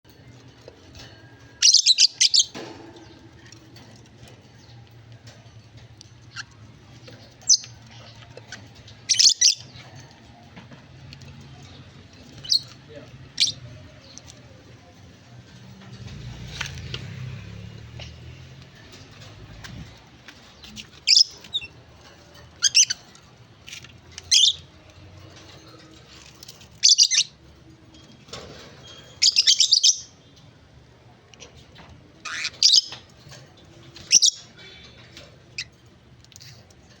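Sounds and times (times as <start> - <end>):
pet birds chirping: 0.2 - 10.4, 11.2 - 14.9, 18.8 - 30.5, 31.2 - 37.0.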